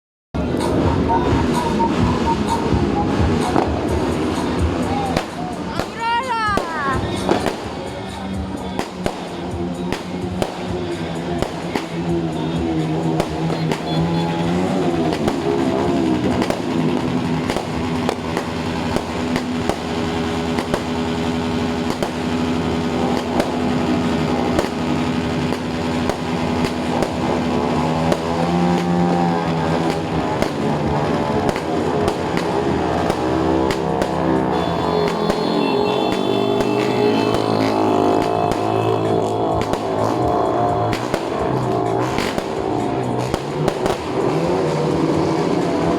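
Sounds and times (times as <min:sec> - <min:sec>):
fireworks banging: 0:00.4 - 0:45.8
background music: 0:00.4 - 0:45.9.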